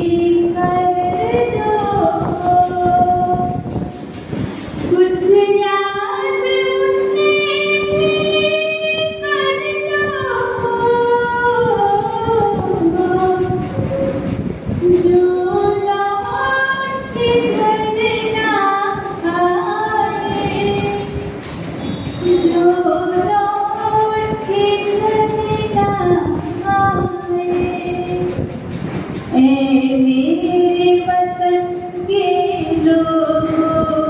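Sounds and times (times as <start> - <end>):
girl singing into a microphone: 0.0 - 4.2, 4.8 - 21.5, 22.1 - 34.0.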